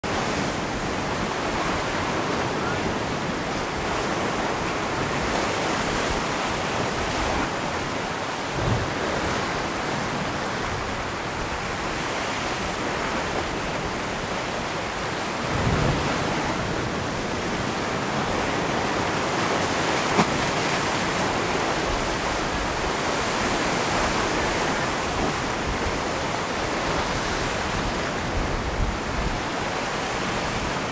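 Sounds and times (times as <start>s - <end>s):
surf rushing over rocks: 0.0s - 30.9s.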